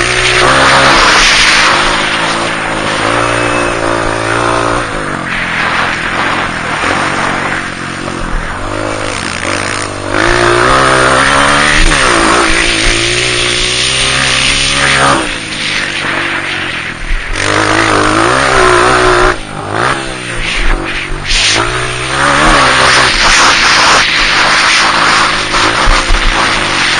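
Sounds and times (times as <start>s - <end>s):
dirt bike engine revving: 0.0s - 26.9s
wind noise: 0.0s - 26.9s.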